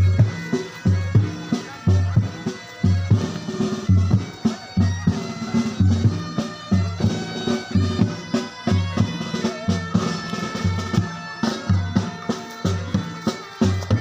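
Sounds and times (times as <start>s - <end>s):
bagpipes playing slow melody: 0.0s - 14.0s
steady drumbeat: 0.0s - 14.0s.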